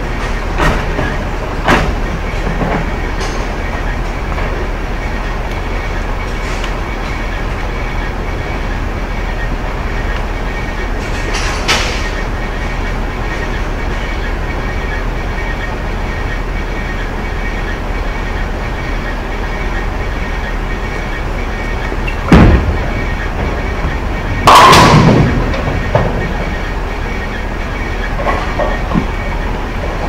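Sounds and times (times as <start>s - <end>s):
bowling balls rolling: 0.0s - 30.0s
pinsetter machinery running: 0.0s - 30.0s.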